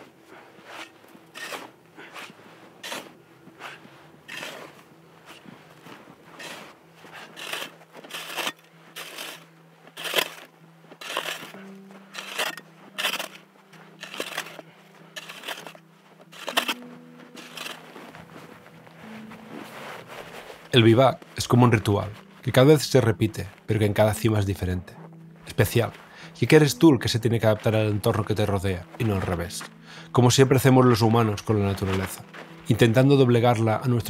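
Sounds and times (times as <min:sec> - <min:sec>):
soft background music: 0:00.0 - 0:34.0
snow shovel crunching in snow: 0:00.1 - 0:34.0.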